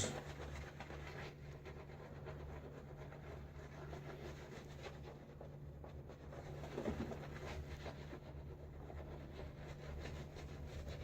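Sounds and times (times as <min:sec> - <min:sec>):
shaving brush scrubbing face: 0:00.0 - 0:11.0.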